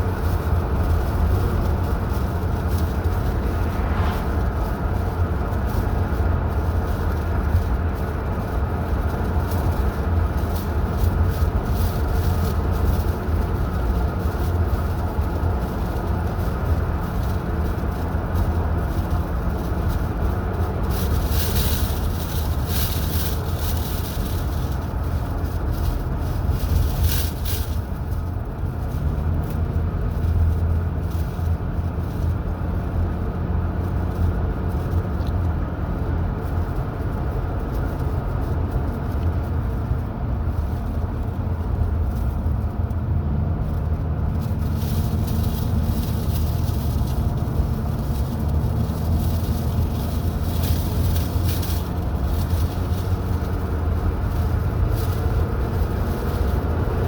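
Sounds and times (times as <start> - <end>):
car engine and road drone: 0.0 - 57.0.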